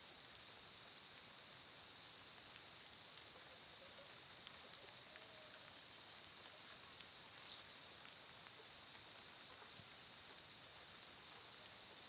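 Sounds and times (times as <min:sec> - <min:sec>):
faint ticks: 0:00.0 - 0:12.0.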